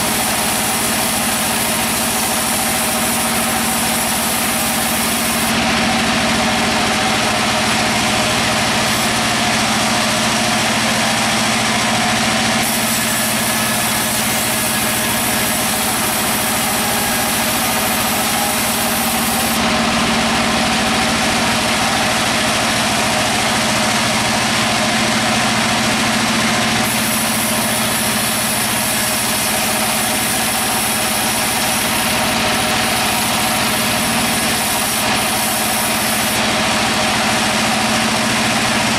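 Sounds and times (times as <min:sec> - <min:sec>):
bandsaw machinery humming: 0:00.0 - 0:38.9.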